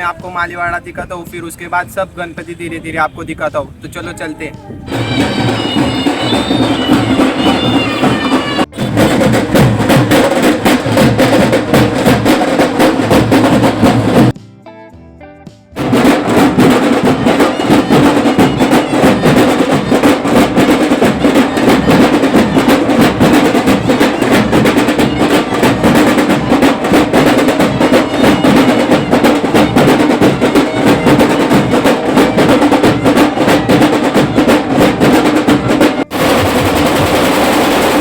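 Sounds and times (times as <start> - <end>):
procession drumming: 3.4 - 14.4, 15.8 - 38.0
steady din: 4.9 - 14.4, 15.8 - 38.0.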